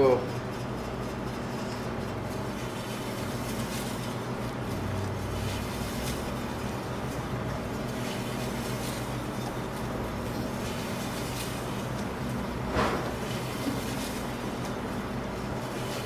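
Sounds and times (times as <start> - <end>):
meat slicer humming: 0.0 - 16.0.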